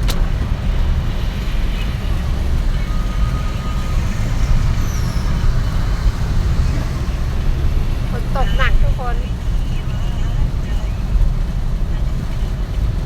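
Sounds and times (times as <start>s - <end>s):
road vehicle engine and road noise: 0.0s - 13.0s.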